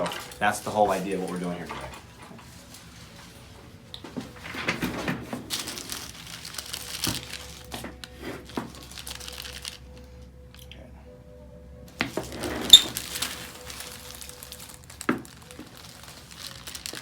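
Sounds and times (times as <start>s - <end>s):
rustling and crinkling: 0.0s - 10.2s, 11.9s - 17.0s
faint steady hum: 0.0s - 16.6s.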